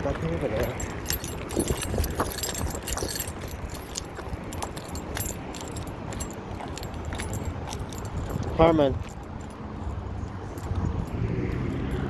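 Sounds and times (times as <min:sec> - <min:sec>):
jingling: 0:00.0 - 0:12.0
wind rumble on microphone: 0:00.0 - 0:12.0.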